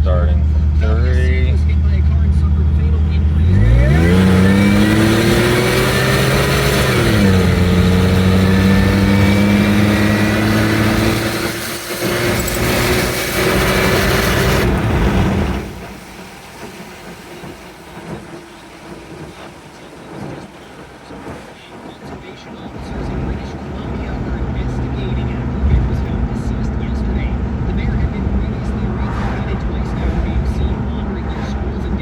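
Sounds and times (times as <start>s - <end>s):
car engine accelerating: 0.0s - 32.0s
supercharger whine: 0.0s - 32.0s.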